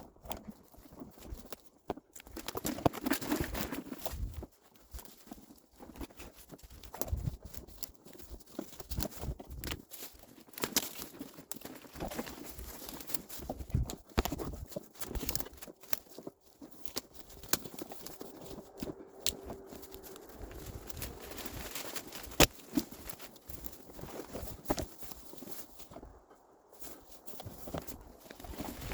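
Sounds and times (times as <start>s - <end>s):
footsteps crunching through wet brush: 2.4s - 28.9s.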